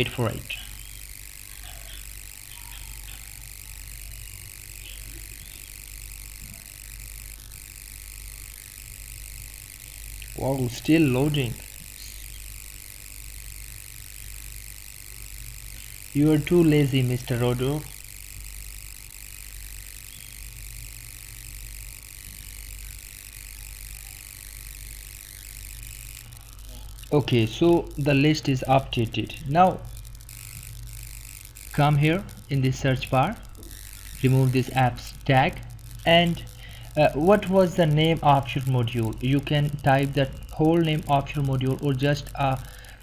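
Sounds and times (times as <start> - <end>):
low hum: 0.0 - 43.0
steady background hiss: 0.0 - 43.0.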